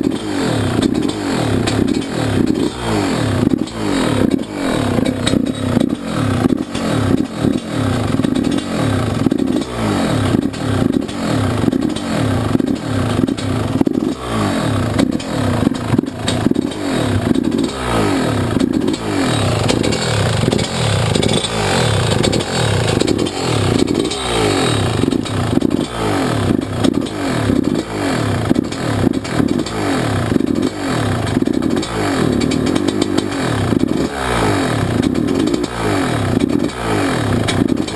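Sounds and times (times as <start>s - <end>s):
two-stroke engine revving: 0.0s - 37.9s.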